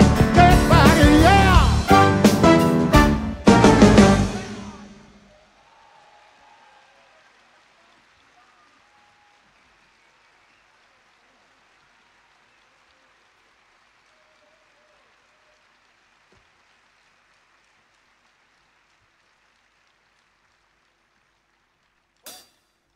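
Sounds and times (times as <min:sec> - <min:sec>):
faint crowd applause and cheering: 0:00.0 - 0:22.3.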